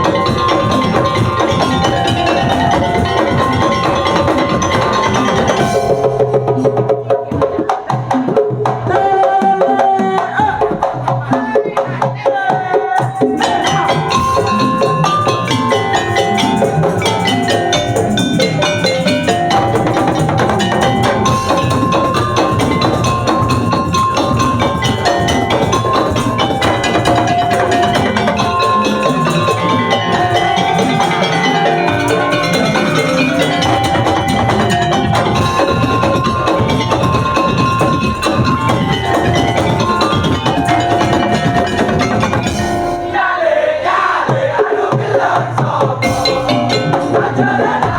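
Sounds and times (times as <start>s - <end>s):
high melody line: 0.0s - 6.9s, 13.1s - 43.4s, 46.0s - 47.9s
slit drums and drums beating: 0.0s - 47.9s.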